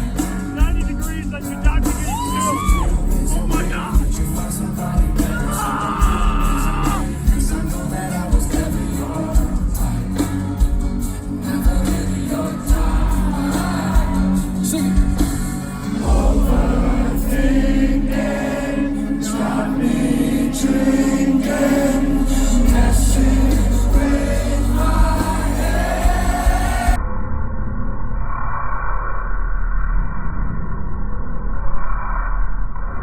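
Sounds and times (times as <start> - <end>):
amplified band playing: 0.0 - 27.0
crowd singing along: 0.0 - 27.0.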